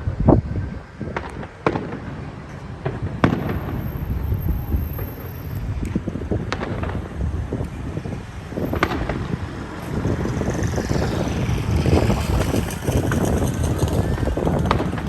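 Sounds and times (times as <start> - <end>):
crackling sizzle of fireworks: 0.0 - 15.0
firework bangs: 0.8 - 15.0.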